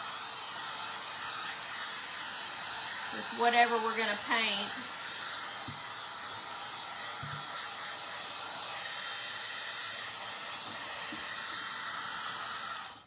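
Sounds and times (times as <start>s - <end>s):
heat tool blowing hot air: 0.0s - 13.0s.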